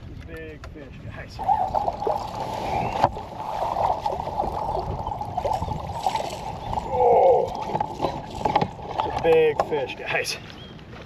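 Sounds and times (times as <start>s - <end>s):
water splashing around a kayak: 1.0s - 10.3s.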